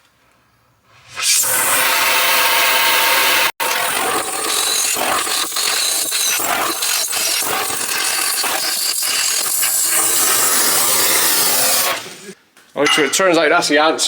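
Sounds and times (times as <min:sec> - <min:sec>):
steady harsh tool noise: 0:01.0 - 0:12.4.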